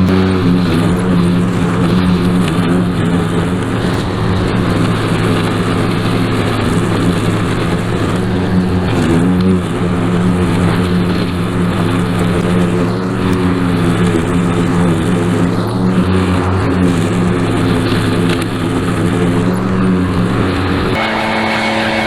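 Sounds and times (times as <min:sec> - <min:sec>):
small lawn equipment engine: 0:00.0 - 0:22.0.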